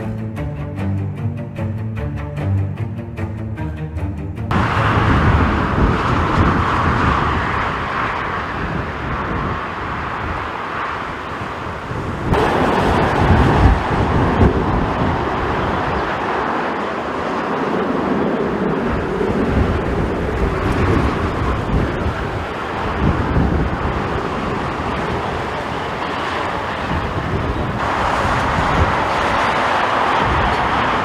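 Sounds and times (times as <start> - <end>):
distant jet engines: 4.5 - 31.0
wind buffeting microphone: 4.5 - 31.0.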